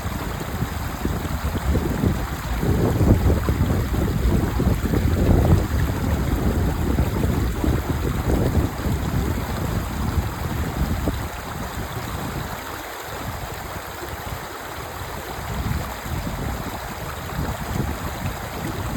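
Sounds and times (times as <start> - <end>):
stream water rushing: 0.0 - 18.9.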